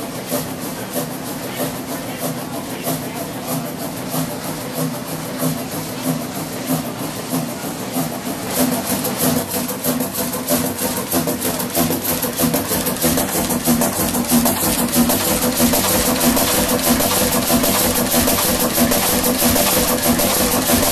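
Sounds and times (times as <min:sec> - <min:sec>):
diesel generator engine running: 0:00.0 - 0:20.9.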